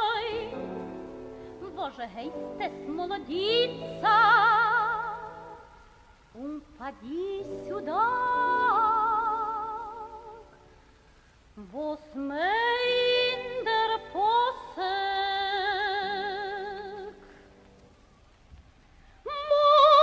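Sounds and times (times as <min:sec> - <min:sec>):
woman singing with vibrato: 0:00.0 - 0:10.7, 0:11.6 - 0:17.3, 0:19.2 - 0:20.0.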